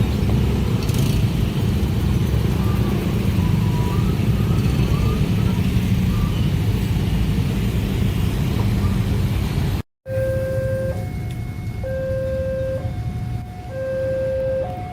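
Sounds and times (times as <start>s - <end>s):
heavy traffic rumble: 0.0s - 14.9s.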